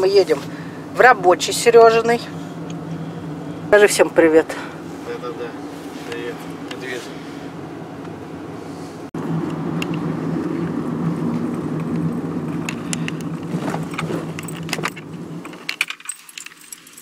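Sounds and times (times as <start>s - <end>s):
car engine and road hum: 0.0s - 17.0s.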